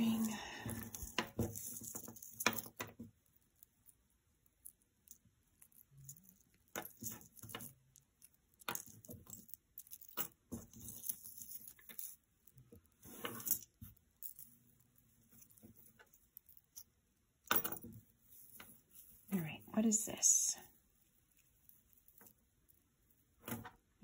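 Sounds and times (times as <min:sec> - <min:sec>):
metal jewelry clinking: 0:00.0 - 0:23.8.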